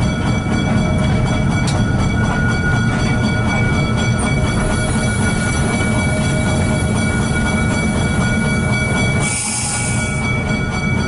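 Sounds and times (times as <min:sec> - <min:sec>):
diesel locomotive engine rumbling: 0:00.0 - 0:11.0
high whine: 0:00.0 - 0:11.0.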